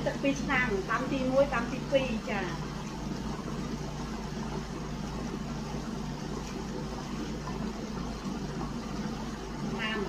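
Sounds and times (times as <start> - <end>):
low mechanical hum with hiss: 0.0 - 10.0.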